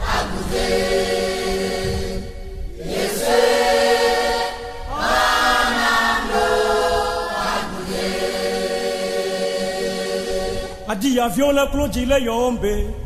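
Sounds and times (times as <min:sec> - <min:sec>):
choir singing gospel song: 0:00.0 - 0:11.4.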